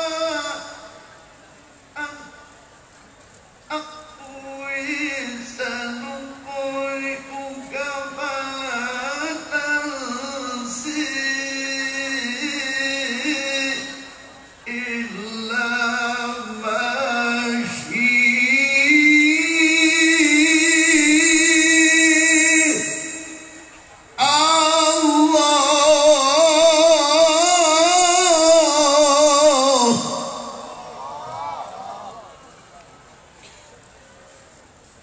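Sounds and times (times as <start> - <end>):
man chanting through loudspeakers: 0.0 - 1.2, 2.0 - 2.5, 3.7 - 32.4.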